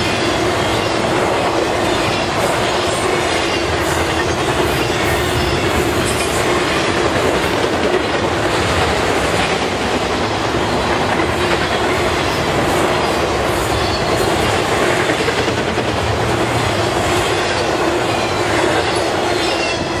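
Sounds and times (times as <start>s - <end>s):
clickety-clack over rail joints: 0.0s - 20.0s
freight train rolling past: 0.0s - 20.0s.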